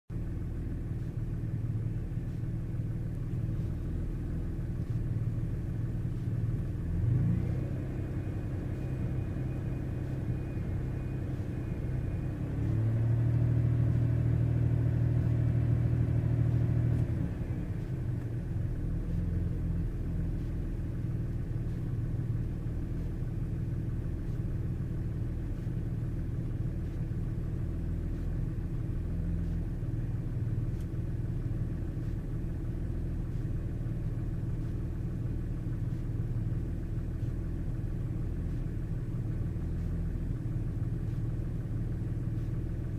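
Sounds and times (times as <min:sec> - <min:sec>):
car engine idling and revving: 0:00.1 - 0:42.9.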